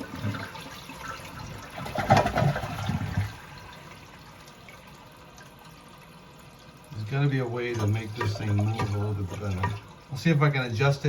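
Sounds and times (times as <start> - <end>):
toilet water surge: 0.0 - 10.9.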